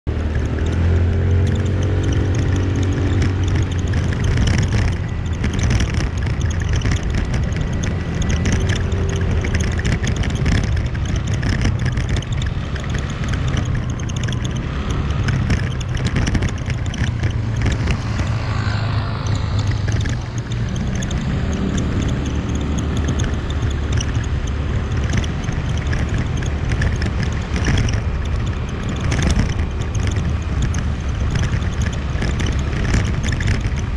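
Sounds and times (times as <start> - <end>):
motorbike engine drone: 0.0 - 33.9
road noise: 0.0 - 33.9
rushing wind: 0.0 - 33.9.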